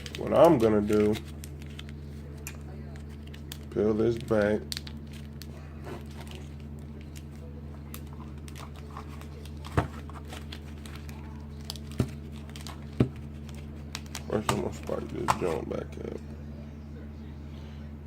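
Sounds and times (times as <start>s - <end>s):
tape crinkling and tearing: 0.0s - 15.6s
steady low hum: 0.0s - 18.0s.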